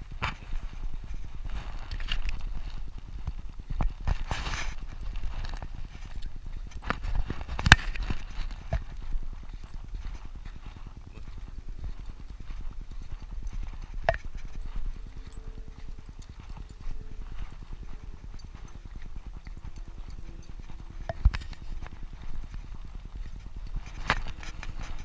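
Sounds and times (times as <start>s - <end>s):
footsteps on dirt trail: 0.0s - 25.0s.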